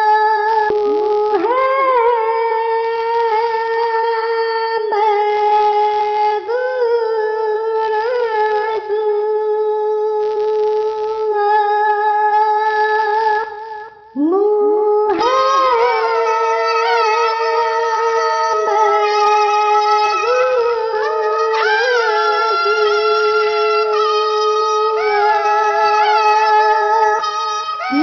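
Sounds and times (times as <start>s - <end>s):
person chanting: 0.0s - 28.0s.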